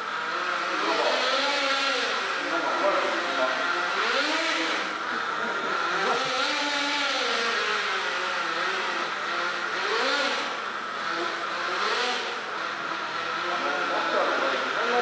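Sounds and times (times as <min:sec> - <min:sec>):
small glow engine revving: 0:00.0 - 0:15.0.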